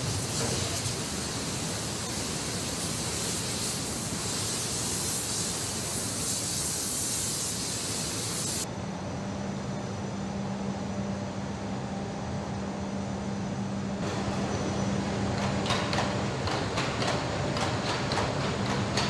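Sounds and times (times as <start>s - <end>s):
assembly hall noise hiss: 0.0s - 19.0s.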